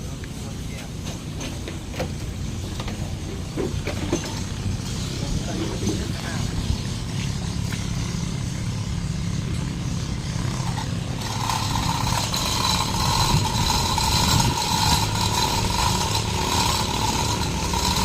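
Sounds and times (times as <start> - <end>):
motor humming: 0.9 - 18.0.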